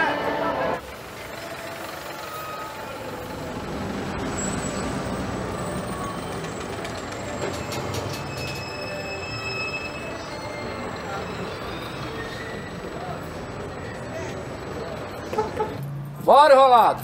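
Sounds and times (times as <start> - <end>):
bus engine and road noise: 0.0 - 17.0
faint high whining tones: 0.6 - 15.6.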